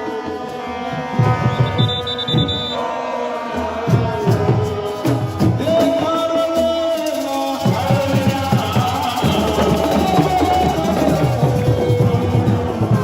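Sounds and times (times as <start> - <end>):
steady drum beat: 1.1 - 2.8, 3.9 - 13.0.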